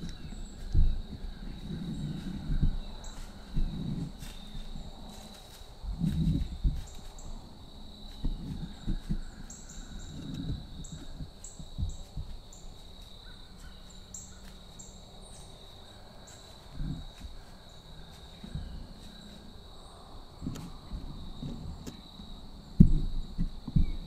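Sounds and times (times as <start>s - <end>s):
footsteps in dry leaves: 0.0s - 19.8s.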